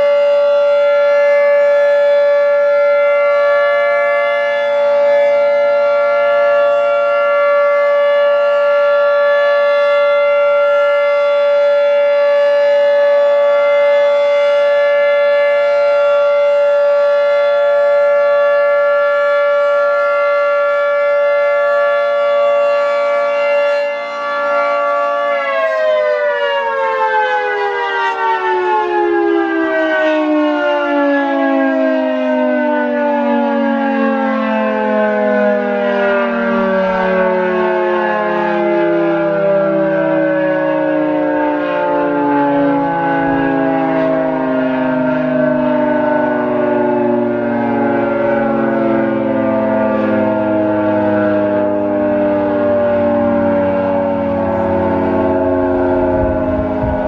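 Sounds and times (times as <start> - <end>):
dual-tone siren winding down: 0.0 - 57.0.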